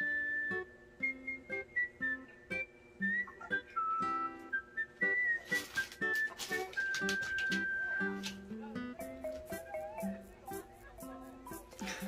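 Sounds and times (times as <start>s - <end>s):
whistled melody: 0.0s - 10.3s
plucked acoustic guitar: 0.0s - 12.0s.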